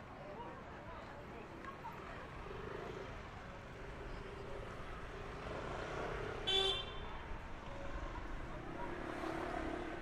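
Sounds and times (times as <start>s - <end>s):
busy street noise: 0.0s - 10.0s.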